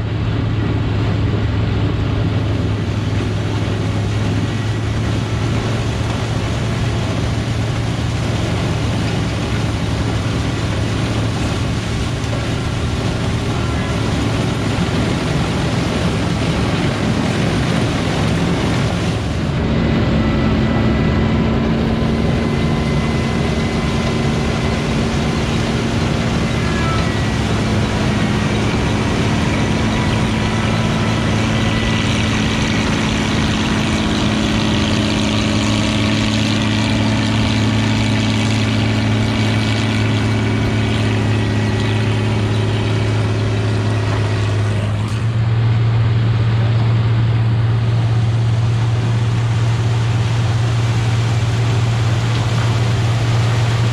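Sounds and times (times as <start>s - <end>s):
harvesting machine engine drone: 0.0s - 53.9s.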